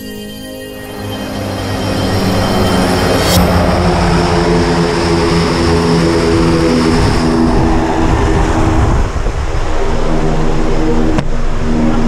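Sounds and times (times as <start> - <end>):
plane engine and propeller drone: 0.0 - 12.0.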